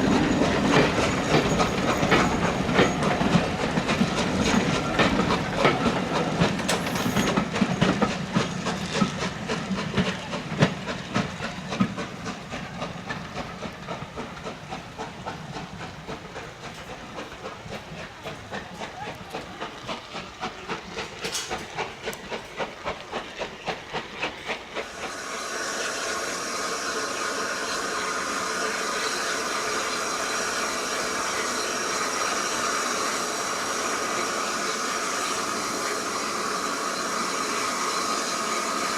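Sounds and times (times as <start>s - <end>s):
hiss of steam: 0.0s - 38.9s
train wheels clicking on rails: 0.0s - 38.9s.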